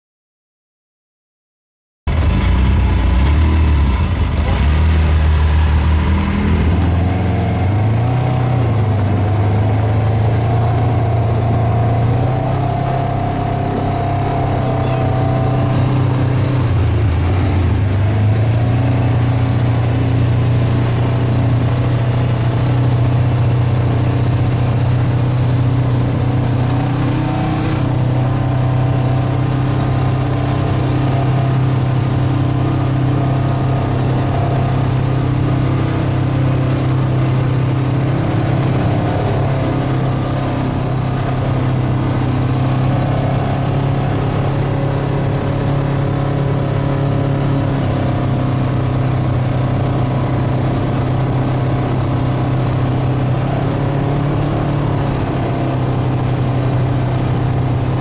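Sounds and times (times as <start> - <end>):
buggy engine running: 2.1 - 58.0.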